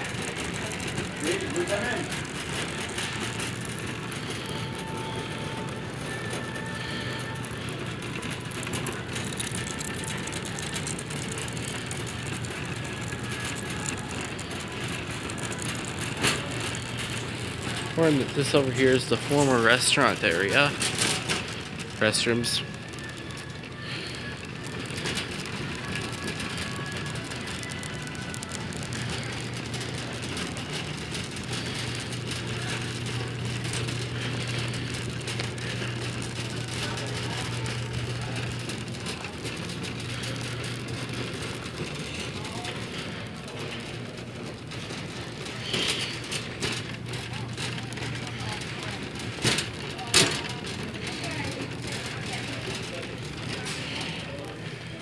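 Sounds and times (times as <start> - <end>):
store interior rushing noise: 0.0 - 55.0
light rattling and clicking: 5.6 - 54.8.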